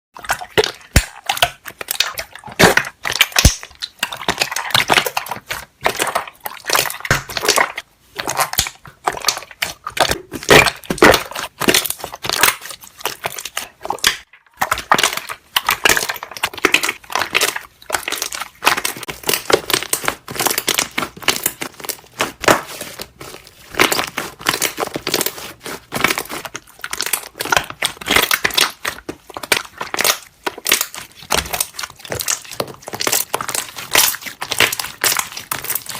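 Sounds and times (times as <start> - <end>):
slime squeezed with popping bubbles: 0.2 - 35.9.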